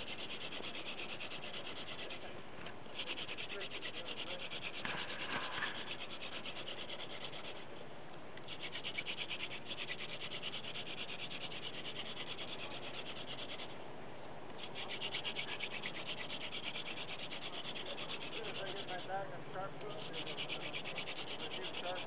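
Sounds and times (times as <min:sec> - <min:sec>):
spindle rasping on wood: 0:00.0 - 0:02.3, 0:03.0 - 0:07.6, 0:08.5 - 0:13.7, 0:14.6 - 0:19.1, 0:19.8 - 0:22.0.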